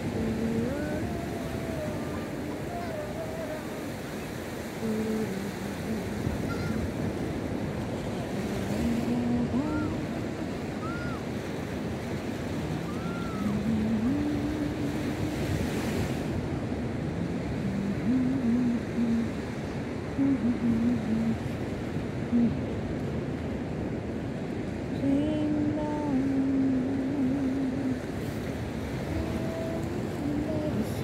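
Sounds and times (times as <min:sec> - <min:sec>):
surf washing on sandy beach: 0:00.0 - 0:31.0
wind on microphone: 0:00.0 - 0:31.0.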